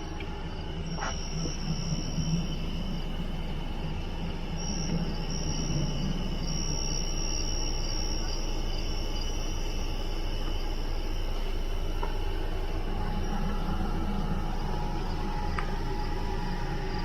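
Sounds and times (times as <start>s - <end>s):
insect trilling: 0.0s - 17.0s
low rumble: 0.0s - 17.0s.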